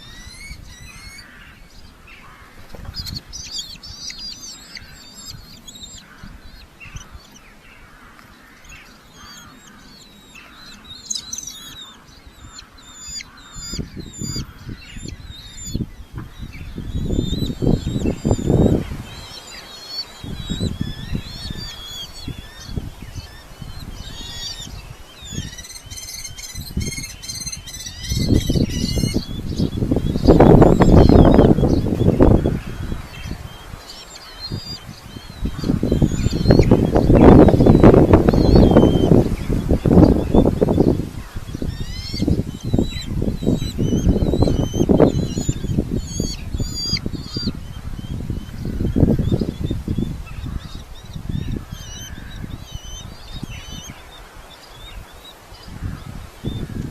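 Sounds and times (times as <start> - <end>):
sharp repeated bird calls: 0.0 - 56.8
birds chirping high: 0.0 - 56.9.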